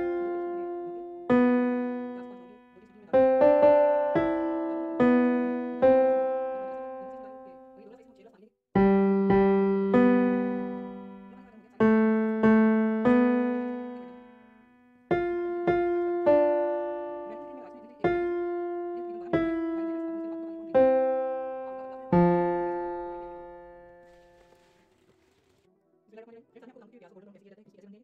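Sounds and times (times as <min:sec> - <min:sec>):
slow piano melody: 0:00.0 - 0:08.0, 0:08.8 - 0:24.7.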